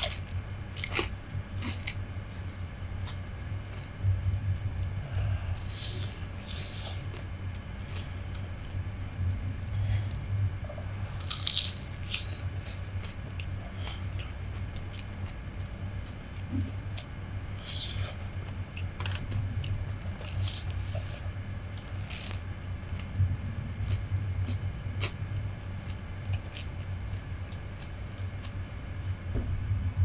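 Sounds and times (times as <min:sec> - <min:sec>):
crunching and chewing fried food: 0:00.0 - 0:29.2
low hum: 0:00.0 - 0:30.0.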